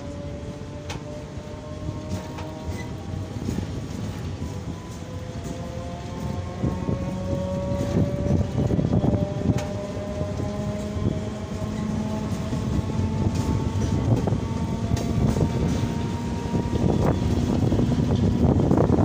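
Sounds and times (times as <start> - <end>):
faint rising train whine: 0.0 - 19.0
train wheels rumbling and clacking: 0.0 - 19.0.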